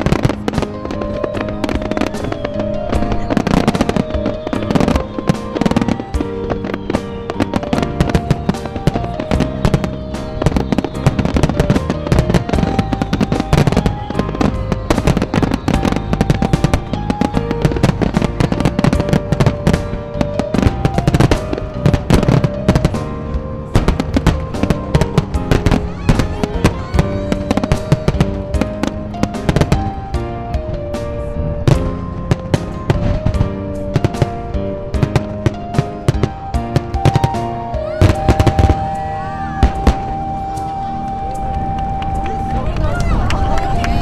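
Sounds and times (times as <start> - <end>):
background music with held notes: 0.0 - 44.0
fireworks bangs and crackles: 0.0 - 44.0.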